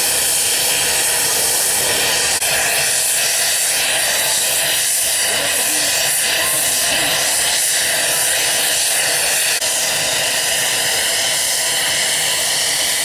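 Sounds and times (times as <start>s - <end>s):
helicopter turbine whine: 0.0s - 13.0s.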